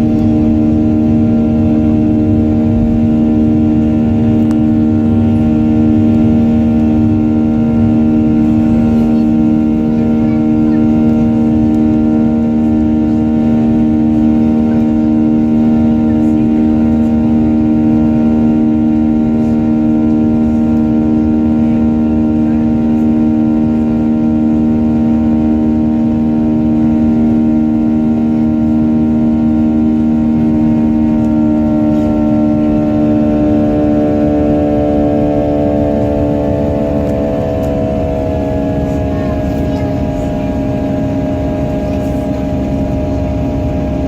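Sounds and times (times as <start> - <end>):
aircraft engines running: 0.0 - 44.0.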